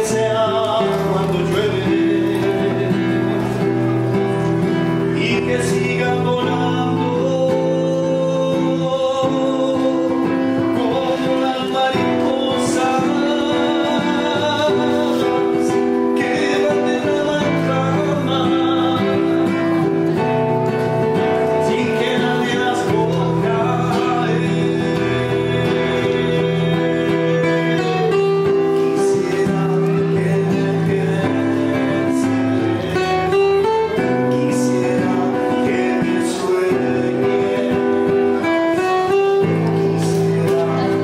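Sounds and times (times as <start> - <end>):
classical guitar strumming: 0.0 - 41.0
man singing a ballad: 0.0 - 41.0.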